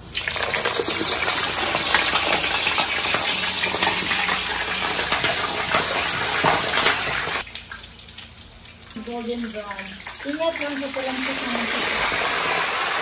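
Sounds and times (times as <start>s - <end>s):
chicken sizzling in deep-frying oil: 0.0s - 13.0s.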